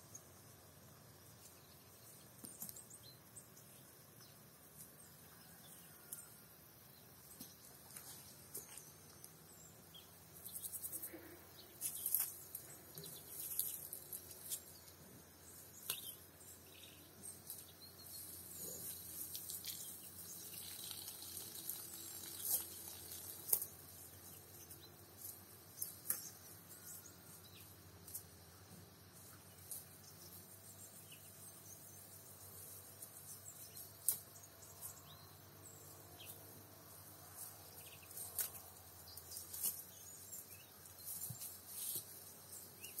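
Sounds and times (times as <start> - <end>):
crickets chirring: 0.0 - 43.0.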